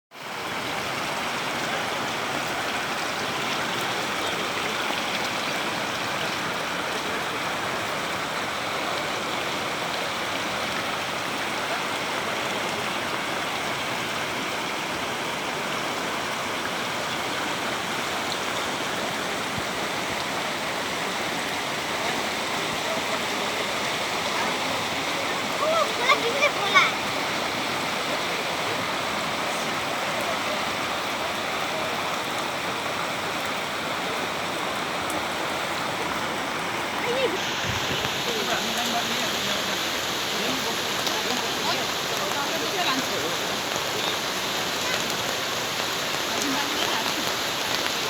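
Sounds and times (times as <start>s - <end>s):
river water rushing: 0.2s - 48.0s.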